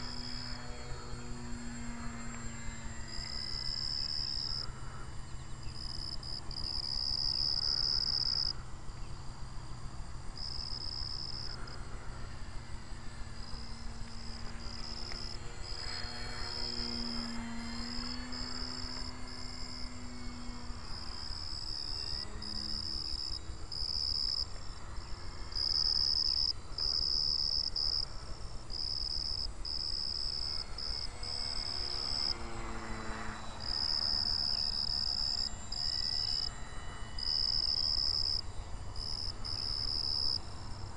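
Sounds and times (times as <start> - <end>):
model plane motor hum: 0.0 - 40.9
insects chirping: 0.1 - 40.9.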